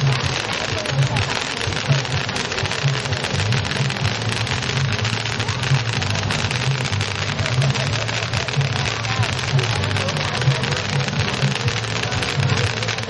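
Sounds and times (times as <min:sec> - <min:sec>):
fireworks crackling and fizzing: 0:00.0 - 0:13.0.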